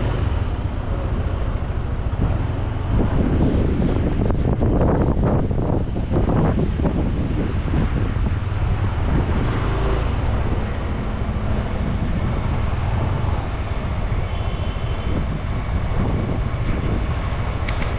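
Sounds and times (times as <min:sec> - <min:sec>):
wind rumble on microphone: 0:00.0 - 0:17.9.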